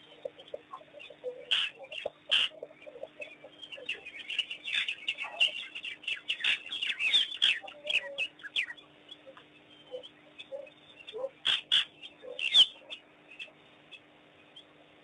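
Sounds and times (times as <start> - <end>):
faint steady hum: 0.0 - 15.0
high chirps and squeaky calls: 0.7 - 14.0.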